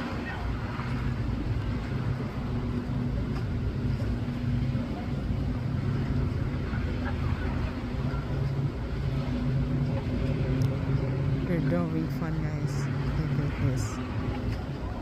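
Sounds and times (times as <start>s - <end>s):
water noise: 0.0s - 15.0s
watercraft engine droning: 0.0s - 15.0s.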